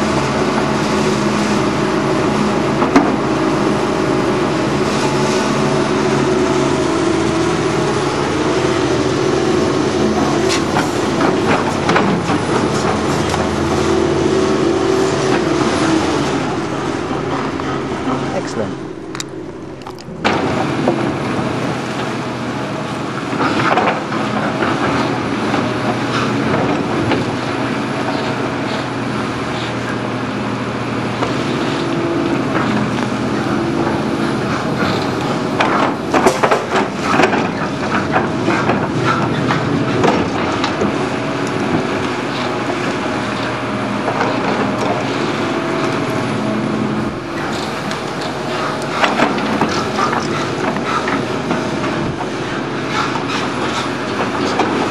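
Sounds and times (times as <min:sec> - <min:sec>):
excavator running: 0:00.0 - 0:54.9.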